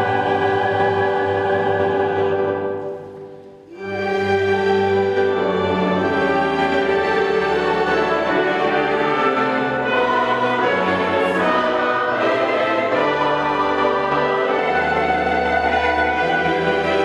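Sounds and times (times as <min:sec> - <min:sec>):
choir and orchestra performing: 0:00.0 - 0:17.0.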